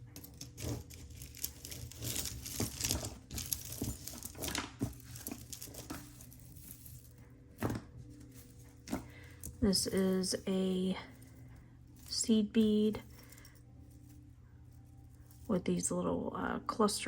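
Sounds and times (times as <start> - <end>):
beads and metal clinking: 0.0 - 16.2
jewelry rustling and crinkling: 0.0 - 16.2.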